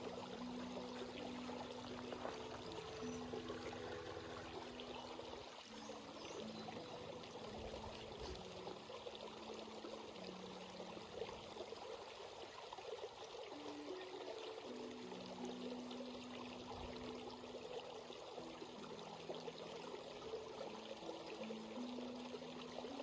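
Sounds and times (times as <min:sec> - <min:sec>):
stream babbling over rocks: 0:00.0 - 0:23.0.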